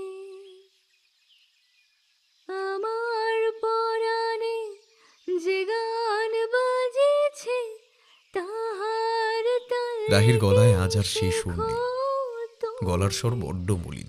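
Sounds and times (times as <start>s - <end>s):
woman singing slow melody: 0.0s - 0.8s, 2.5s - 13.2s.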